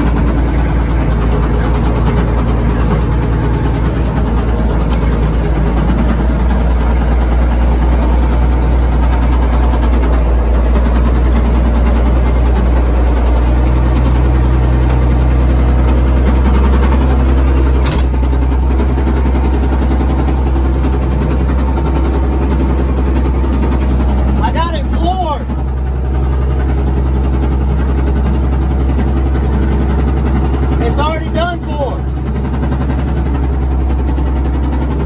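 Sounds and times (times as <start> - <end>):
diesel engine running with knock: 0.0 - 35.0.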